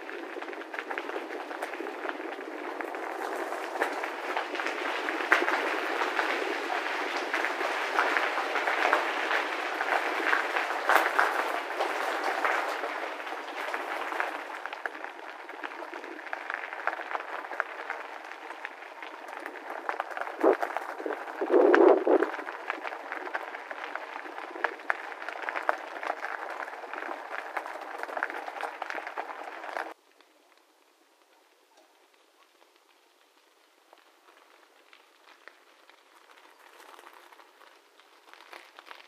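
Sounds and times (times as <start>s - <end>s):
bicycle tyres crunching on gravel: 0.0s - 39.0s.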